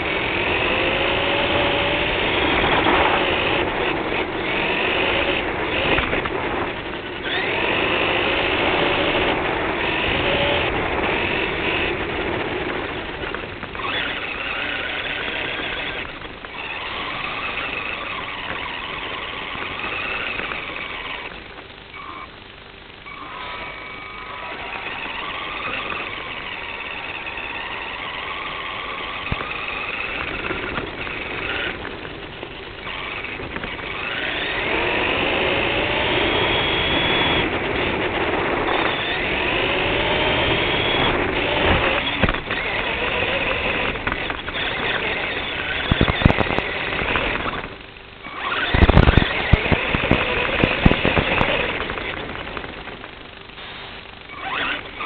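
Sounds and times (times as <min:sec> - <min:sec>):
rc car motor whining: 0:00.0 - 0:22.4, 0:23.0 - 0:55.0
wheels rumbling on ground: 0:00.0 - 0:55.0.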